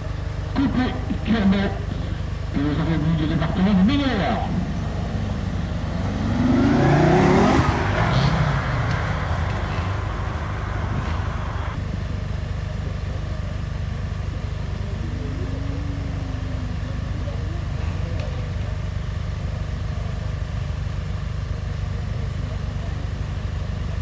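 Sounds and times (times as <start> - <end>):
car engine revving: 0.0 - 12.0, 12.6 - 20.2
cars idling: 0.0 - 24.0.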